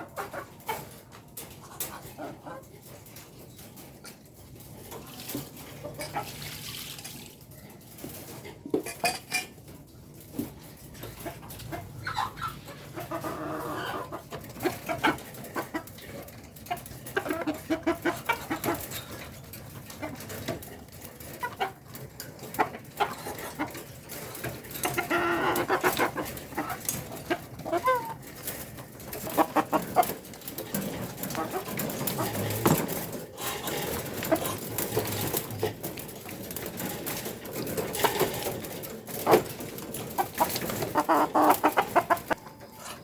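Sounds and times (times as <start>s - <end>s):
chickens clucking: 0.0s - 6.8s, 7.4s - 43.0s.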